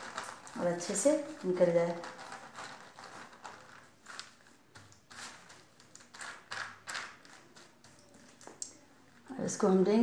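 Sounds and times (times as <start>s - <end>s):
plastic sheet rustling: 0.0s - 9.5s.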